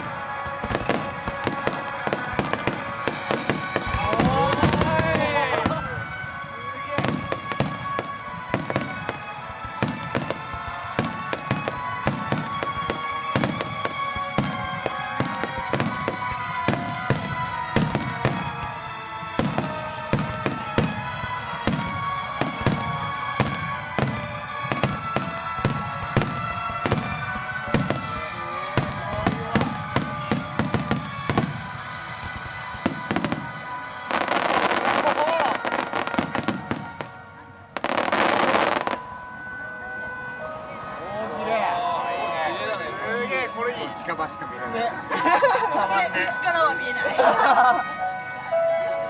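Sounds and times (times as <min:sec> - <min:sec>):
fireworks bursting with sharp bangs: 0:00.0 - 0:39.6
music playing: 0:00.0 - 0:49.0.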